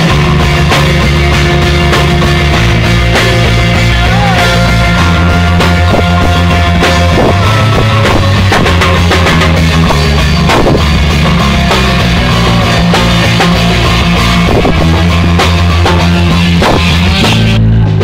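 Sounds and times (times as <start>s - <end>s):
distorted loud rock music: 0.0s - 18.0s.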